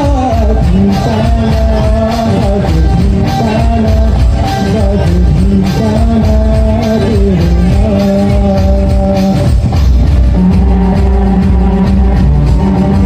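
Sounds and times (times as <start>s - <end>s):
heavy bass: 0.0s - 13.0s
song with sung melody: 0.0s - 13.0s
steady drum beat: 0.0s - 13.0s.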